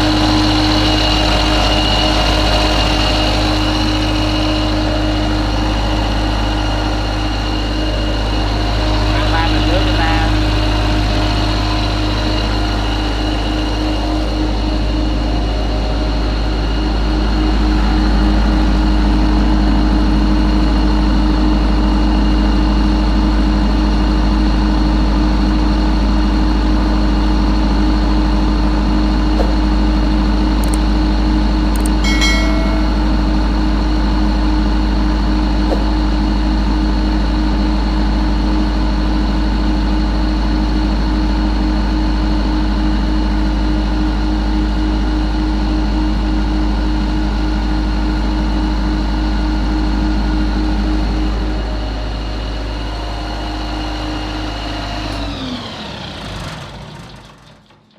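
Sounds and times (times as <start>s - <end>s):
diesel generator running: 0.0s - 57.9s.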